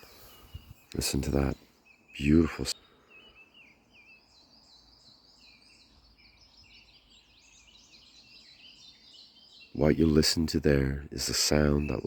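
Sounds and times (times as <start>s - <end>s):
faint birdsong: 0.0s - 12.0s.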